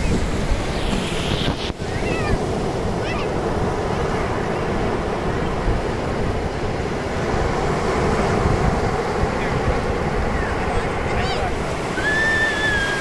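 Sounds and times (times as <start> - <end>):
sea waves breaking on sand: 0.0 - 13.0
wind rumble on microphone: 0.0 - 13.0.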